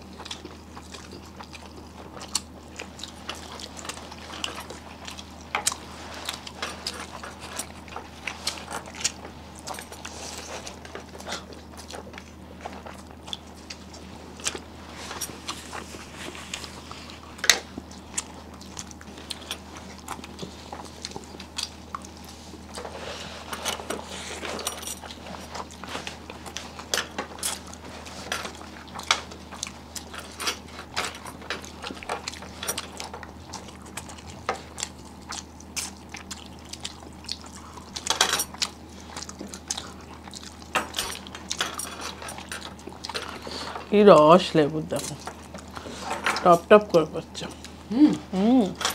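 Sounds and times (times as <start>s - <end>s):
chewing: 0.0s - 48.9s.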